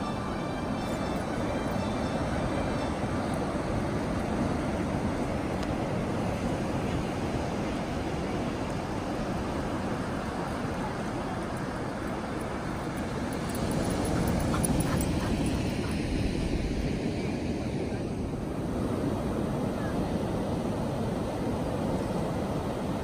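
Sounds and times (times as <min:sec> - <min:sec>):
ocean surf washing up beach: 0:00.0 - 0:23.0.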